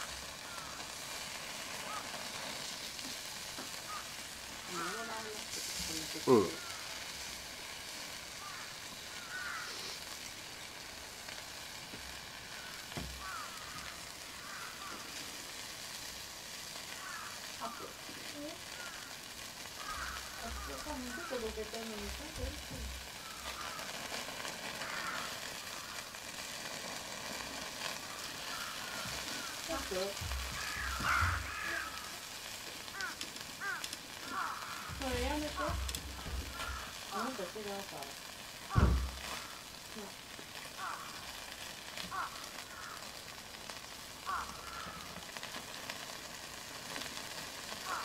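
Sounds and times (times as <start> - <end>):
meat sizzling in a pan: 0.0 - 48.0.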